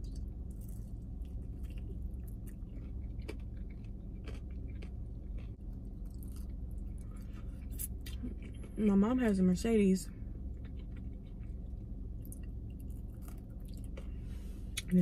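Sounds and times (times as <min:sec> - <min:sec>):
person chewing crispy chicken: 0:00.0 - 0:08.8, 0:10.4 - 0:14.9
low steady hum: 0:00.0 - 0:15.0.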